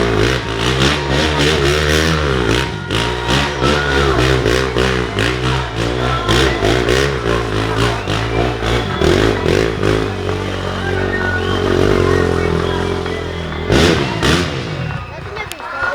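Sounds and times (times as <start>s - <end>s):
steady low drone: 0.0s - 15.2s
racing engines revving: 0.0s - 15.9s.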